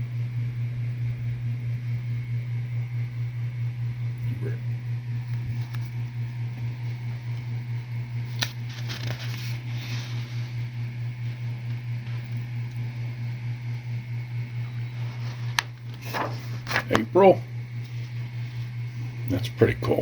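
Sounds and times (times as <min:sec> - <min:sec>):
low pulsing mechanical hum: 0:00.0 - 0:20.0.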